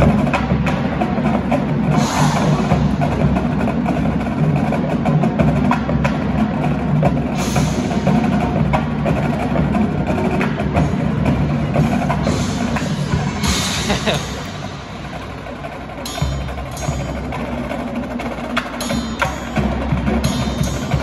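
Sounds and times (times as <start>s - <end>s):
drum hits and sharp clicks: 0.0s - 21.0s
marching band playing: 0.0s - 21.0s.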